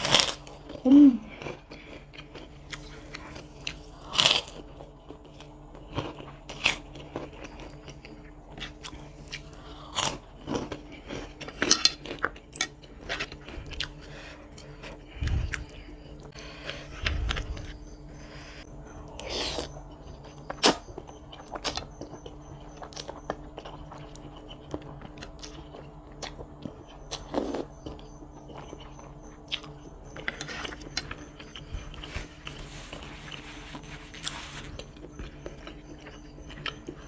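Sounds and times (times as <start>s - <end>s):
crunchy chewing of cracker: 0.0s - 37.0s.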